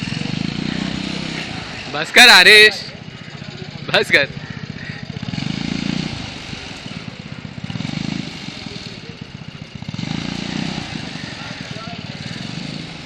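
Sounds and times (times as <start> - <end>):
skid-steer loader engine running: 0.0 - 13.0.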